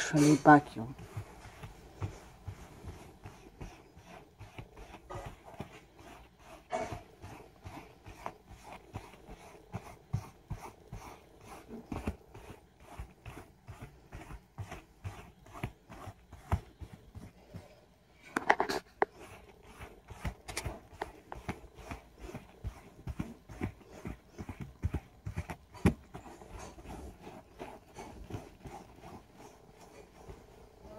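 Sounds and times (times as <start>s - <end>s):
knocks and scuffs: 0.0s - 30.9s
glove rubbing upholstery: 0.5s - 30.9s.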